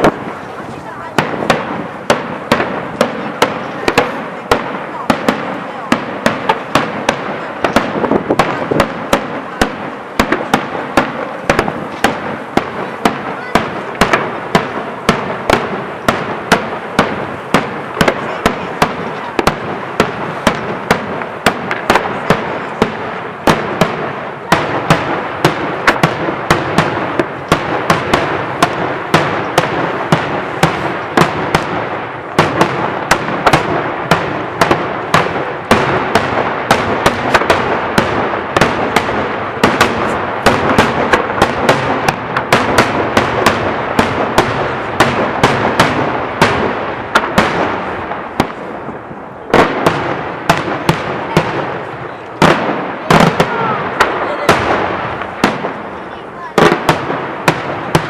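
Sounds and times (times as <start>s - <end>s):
fireworks crackle: 0.0s - 58.0s.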